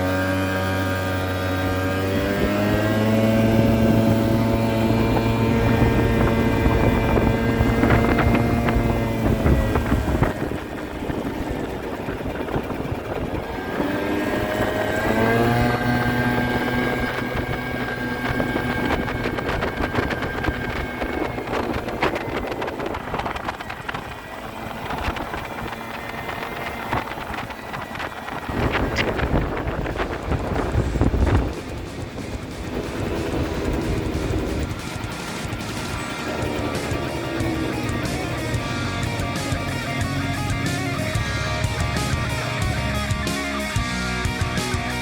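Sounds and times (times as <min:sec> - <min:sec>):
wind on microphone: 0:00.0 - 0:43.3
scooter engine accelerating: 0:00.0 - 0:45.0.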